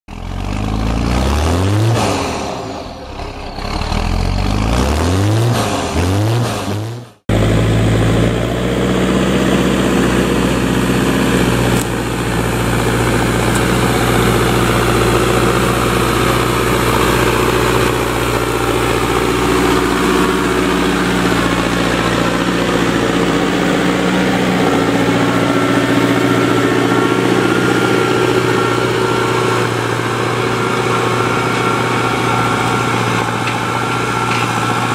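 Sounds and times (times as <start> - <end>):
engine revving: 0.1 - 34.9
tractor diesel engine under load: 0.1 - 34.9.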